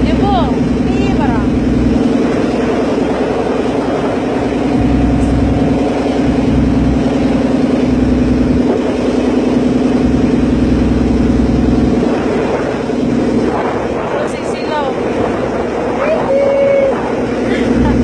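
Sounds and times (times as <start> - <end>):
boat engine drone: 0.0 - 18.0
wind on microphone: 0.0 - 18.0.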